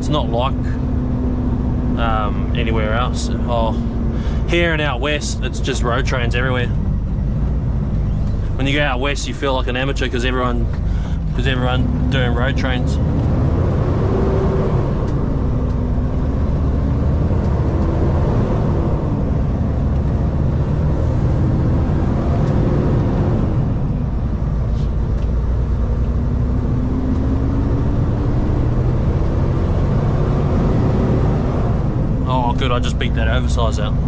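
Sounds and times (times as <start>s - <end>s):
truck diesel engine rumble: 0.0s - 34.0s.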